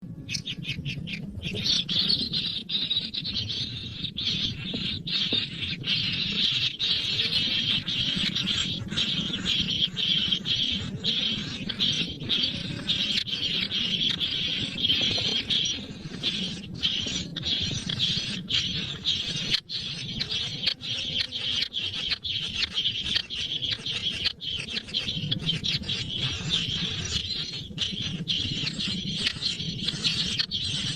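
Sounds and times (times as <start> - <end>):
young bird raspy calls: 0.3 - 30.9.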